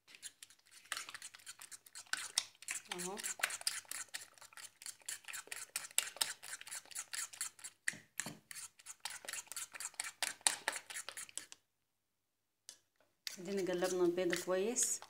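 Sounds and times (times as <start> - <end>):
whisking eggs in ceramic bowl: 0.0 - 11.6, 13.2 - 15.0.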